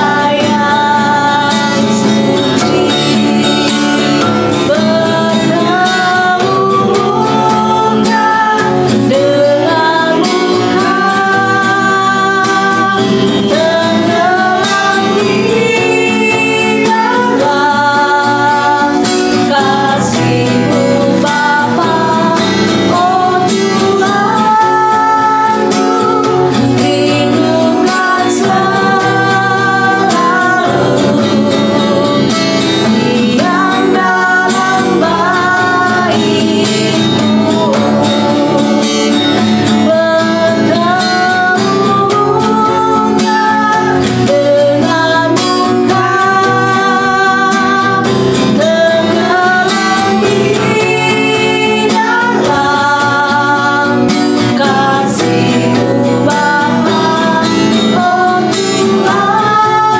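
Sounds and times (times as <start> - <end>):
guitar accompaniment: 0.0 - 59.9
person singing: 0.0 - 59.9.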